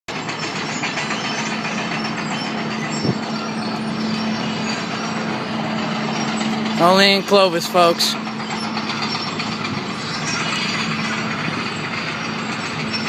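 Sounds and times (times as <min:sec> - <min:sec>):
clatter and scraping on road: 0:00.1 - 0:13.0
tractor engine hum: 0:00.1 - 0:13.0.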